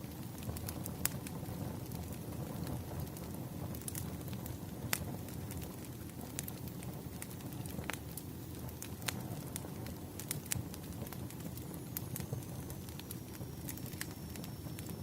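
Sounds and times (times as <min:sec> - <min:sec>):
embers rumbling: 0:00.0 - 0:15.0
fire crackles and pops: 0:00.0 - 0:15.0.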